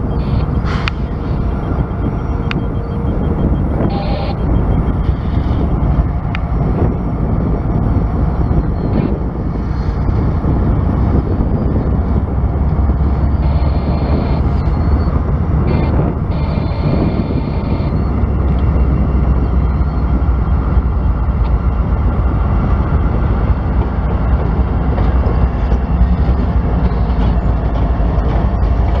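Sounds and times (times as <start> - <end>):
diesel locomotive rumble: 0.0 - 29.0.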